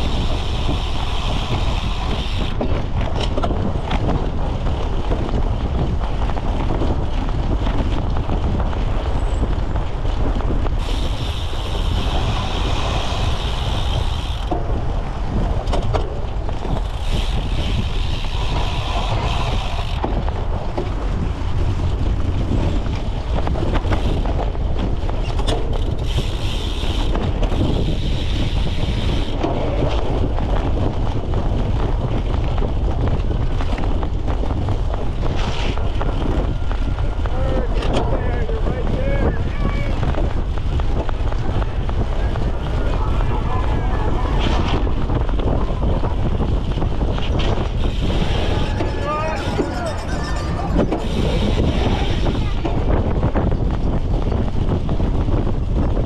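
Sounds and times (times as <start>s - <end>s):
bike rattling over rough ground: 0.0s - 56.0s
wind buffeting microphone: 0.0s - 56.0s.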